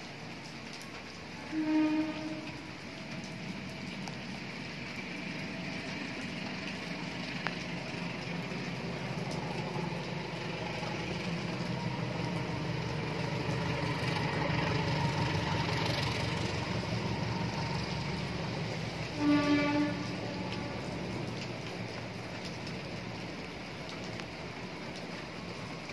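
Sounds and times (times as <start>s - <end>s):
heavy rain hiss: 0.0s - 25.9s
locomotive engine humming: 1.0s - 25.9s.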